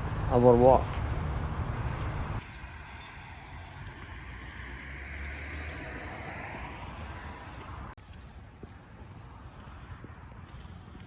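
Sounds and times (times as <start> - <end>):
outdoor rushing noise: 0.0 - 11.0.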